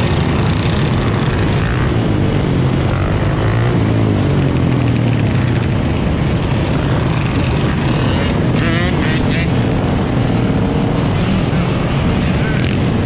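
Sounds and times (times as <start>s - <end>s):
dirt bike engines running: 0.0s - 13.0s.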